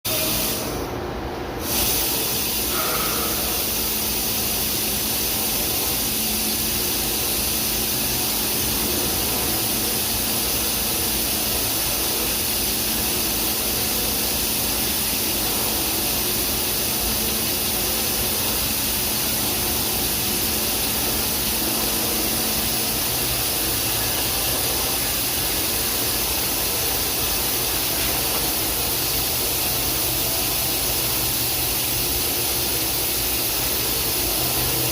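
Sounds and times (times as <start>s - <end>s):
hissing machine noise: 0.1s - 34.9s.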